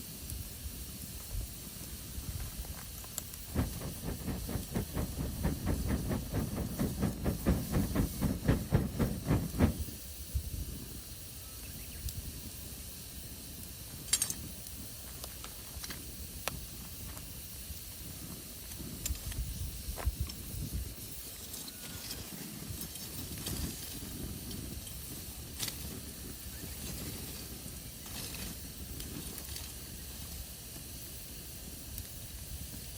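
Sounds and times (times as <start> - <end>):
campfire hissing and popping: 0.0 - 32.9.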